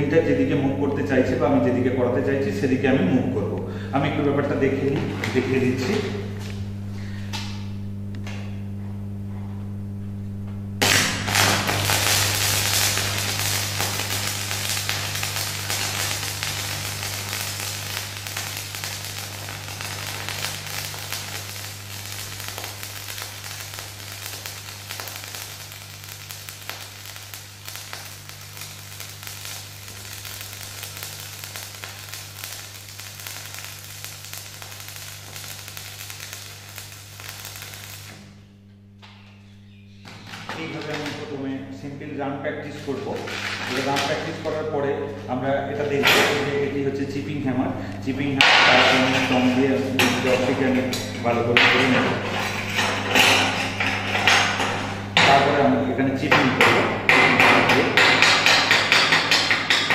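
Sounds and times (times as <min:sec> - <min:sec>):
welding machine hum: 0:00.0 - 0:59.9
welding arc crackling: 0:04.0 - 0:09.2, 0:09.8 - 0:39.2, 0:40.0 - 0:59.9.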